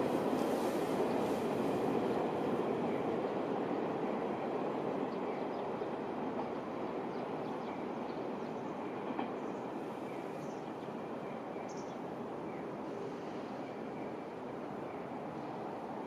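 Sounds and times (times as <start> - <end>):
electric train rumbling on track: 0.0 - 16.0.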